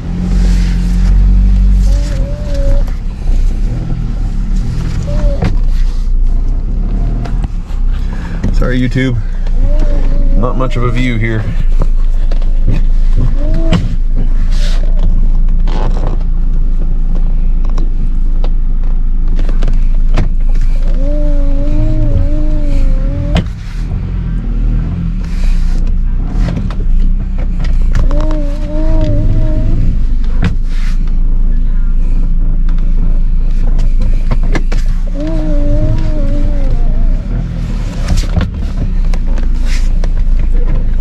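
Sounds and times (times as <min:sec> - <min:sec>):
car engine droning under load: 0:00.0 - 0:41.0.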